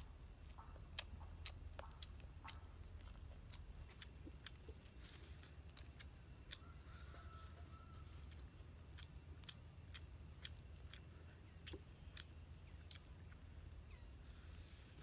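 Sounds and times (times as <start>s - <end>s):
wet chewing and mouth clicks: 0.0s - 14.1s.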